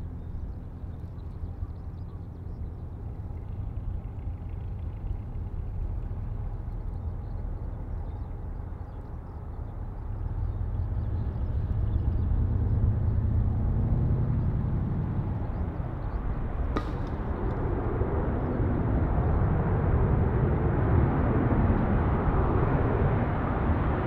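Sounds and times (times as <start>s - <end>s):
jet engine rumble: 0.0s - 24.0s.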